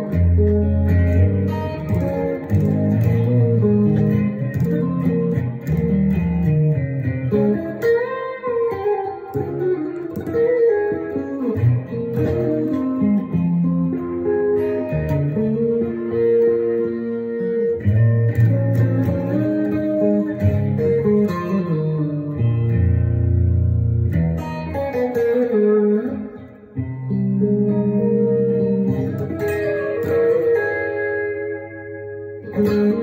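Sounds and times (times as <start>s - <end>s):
solo electric guitar: 0.0s - 33.0s.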